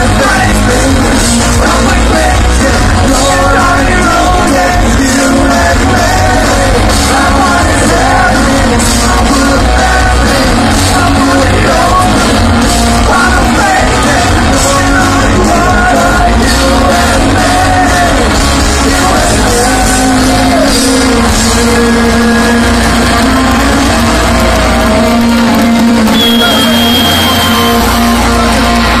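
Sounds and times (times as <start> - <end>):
person singing: 0.0 - 29.0
punk rock band playing: 0.0 - 29.0.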